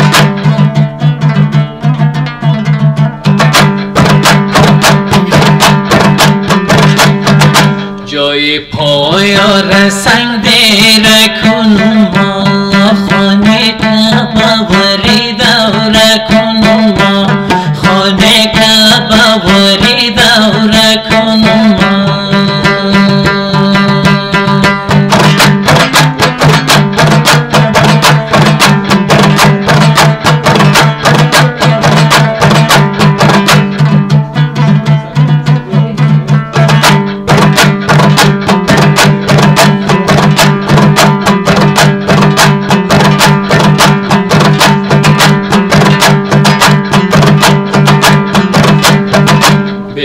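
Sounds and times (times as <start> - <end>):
percussion beat: 0.0 - 50.0
plucked lute: 0.0 - 50.0.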